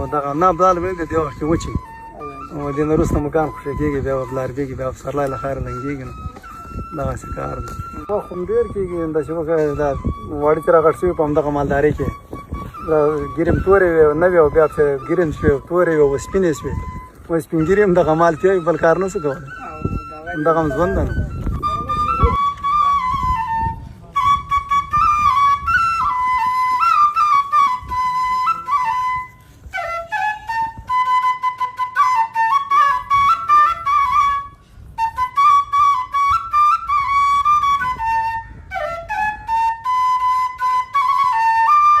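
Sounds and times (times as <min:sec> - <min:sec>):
flute melody: 0:00.0 - 0:42.0.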